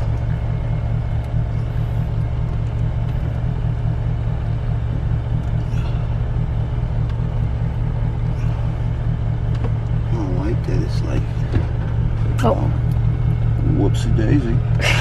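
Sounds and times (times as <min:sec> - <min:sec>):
air conditioning blowing: 0:00.0 - 0:15.0.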